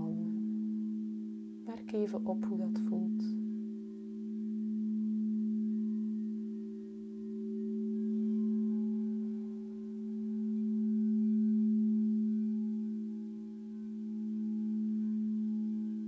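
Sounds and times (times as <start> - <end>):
singing bowl ringing: 0.0 - 16.0.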